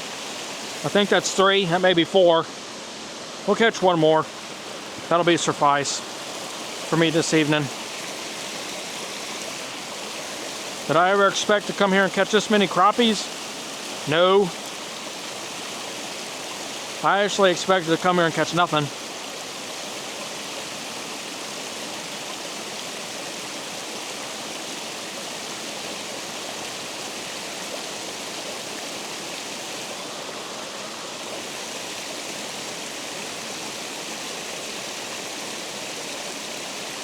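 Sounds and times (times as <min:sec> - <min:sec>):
water rushing over a spillway: 0:00.0 - 0:37.0.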